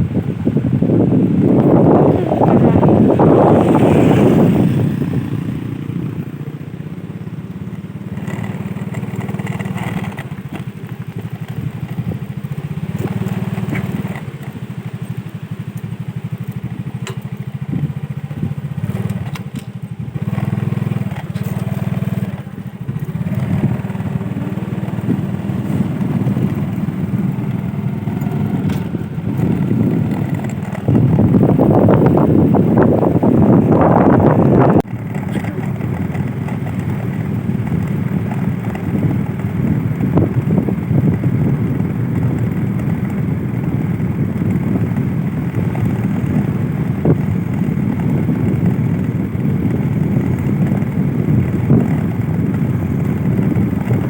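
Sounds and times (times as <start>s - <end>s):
wind on microphone: 0.0s - 10.7s, 16.9s - 54.0s
engine running: 0.0s - 54.0s.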